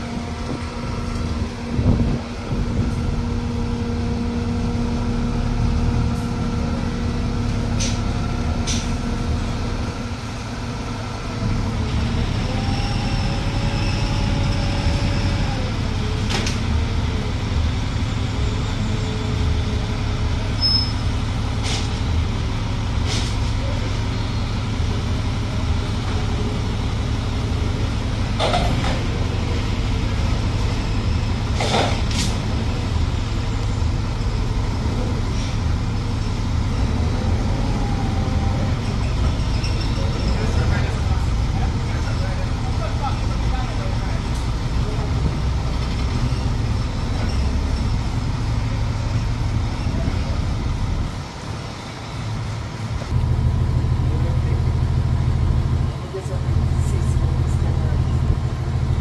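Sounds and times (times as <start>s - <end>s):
engines droning: 0.0s - 59.0s.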